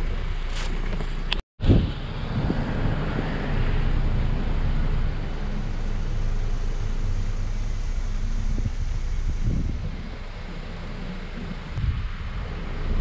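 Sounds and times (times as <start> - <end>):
car engine idling: 2.0 - 13.0.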